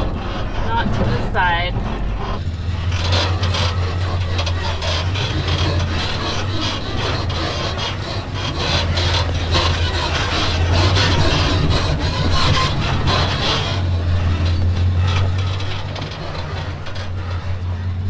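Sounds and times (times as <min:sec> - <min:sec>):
truck engine drone: 0:00.0 - 0:18.0
tyres grinding on rock: 0:00.0 - 0:18.0.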